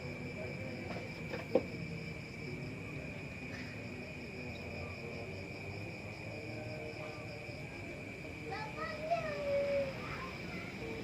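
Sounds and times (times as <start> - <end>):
crickets chirring: 0.0 - 11.0
faint low background noise: 0.0 - 11.0.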